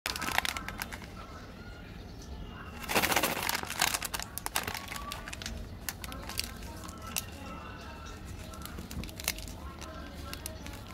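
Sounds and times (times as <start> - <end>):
plastic packets crinkling: 0.1 - 1.2, 2.8 - 10.9.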